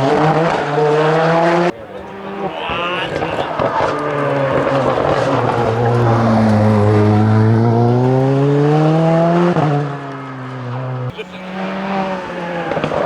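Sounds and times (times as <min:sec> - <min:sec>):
car engine accelerating hard: 0:00.0 - 0:13.0
tyre noise: 0:01.4 - 0:13.0.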